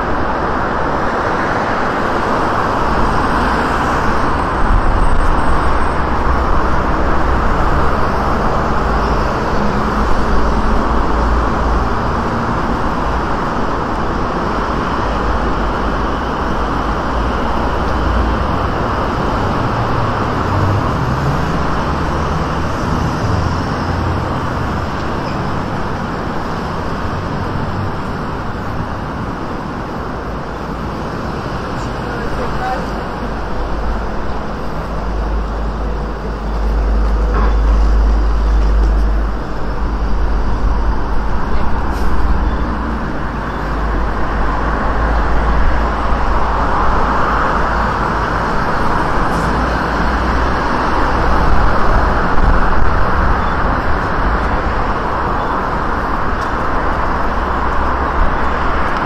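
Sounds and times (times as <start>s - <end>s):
city traffic: 0.0s - 59.0s
low rumble of passing vehicles: 0.0s - 59.0s.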